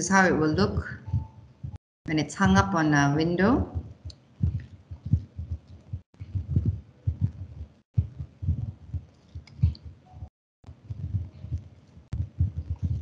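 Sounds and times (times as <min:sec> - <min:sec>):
low muffled thumps: 0:00.4 - 0:01.8, 0:02.4 - 0:02.8, 0:03.6 - 0:10.0, 0:10.7 - 0:13.0.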